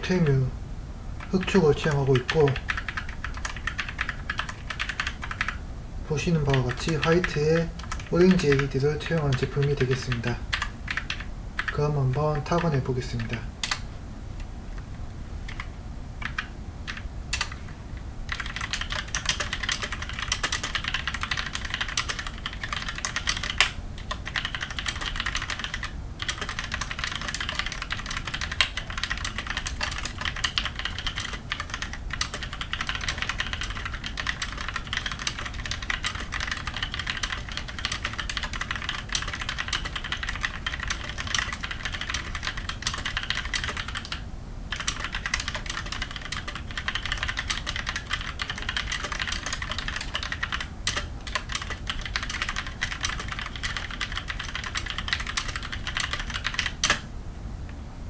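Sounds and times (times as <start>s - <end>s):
typing on mechanical keyboard: 1.2s - 13.8s, 15.5s - 57.1s.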